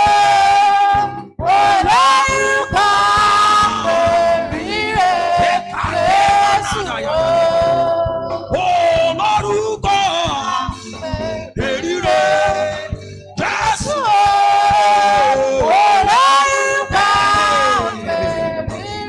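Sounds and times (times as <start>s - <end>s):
person singing slow melody: 0.0s - 19.0s.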